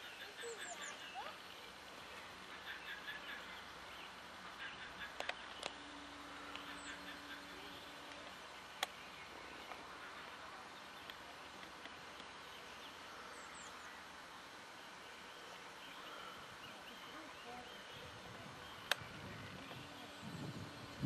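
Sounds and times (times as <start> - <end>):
distant birds chirping: 0.0 - 21.0.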